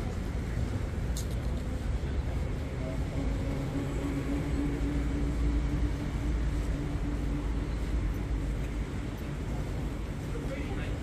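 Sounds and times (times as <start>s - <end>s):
low rumble of traffic: 0.0s - 11.0s
thin steady hum: 0.0s - 11.0s.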